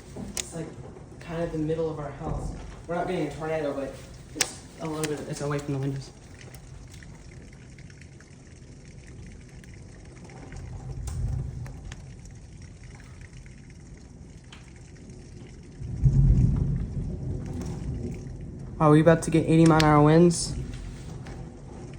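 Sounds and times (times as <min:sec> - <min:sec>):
faint ticks of rain: 0:00.0 - 0:21.9
rain hiss heard indoors: 0:00.0 - 0:21.9
thunder rumble: 0:00.0 - 0:21.9.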